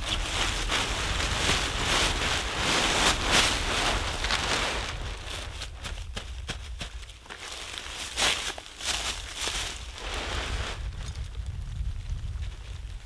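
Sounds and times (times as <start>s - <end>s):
wind rumble on microphone: 0.0s - 7.2s, 8.2s - 13.0s
plastic and tent fabric rustling: 0.0s - 11.6s.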